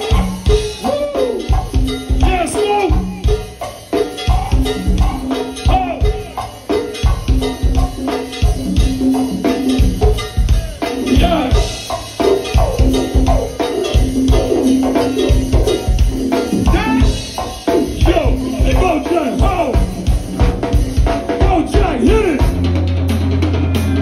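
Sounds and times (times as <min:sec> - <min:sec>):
hand percussion: 0:00.0 - 0:21.4
drum beat: 0:00.0 - 0:24.0
bass line: 0:04.3 - 0:24.0.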